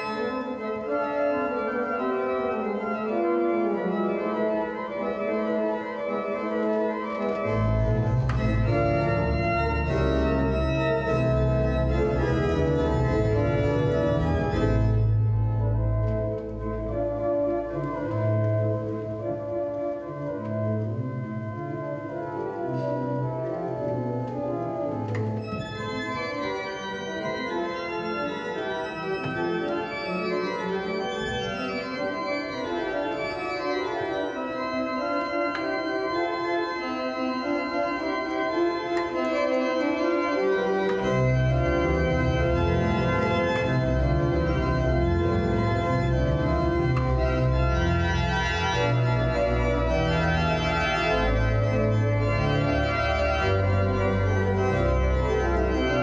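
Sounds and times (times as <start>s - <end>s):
deep organ pedal bass: 0.0s - 56.0s
organ playing baroque music: 0.0s - 56.0s.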